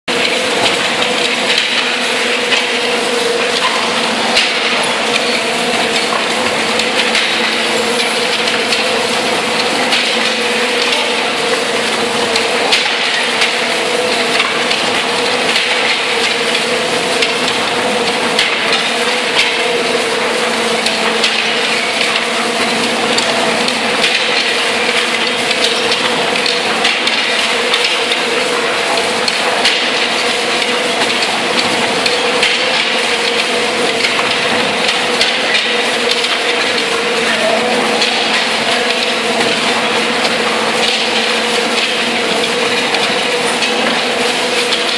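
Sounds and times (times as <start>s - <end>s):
steady machine hum: 0.1s - 44.9s.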